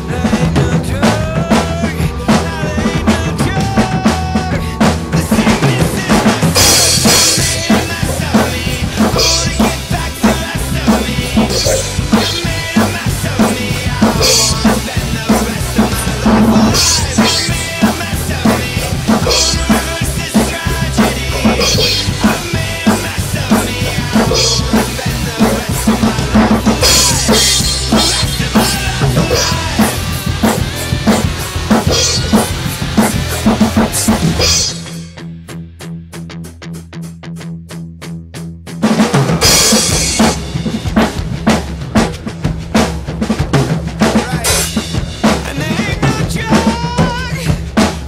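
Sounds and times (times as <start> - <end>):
sustained bass notes: 0.0 - 42.7
drum kit steady beat: 0.0 - 48.0.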